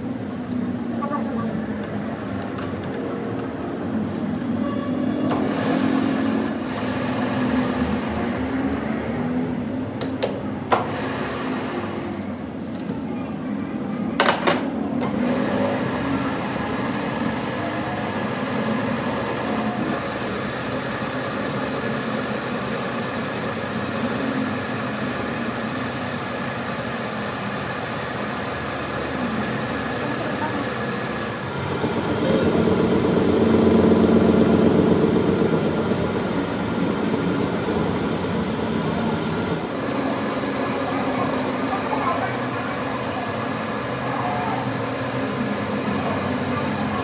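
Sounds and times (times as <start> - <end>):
metal lathe running: 0.0 - 47.0.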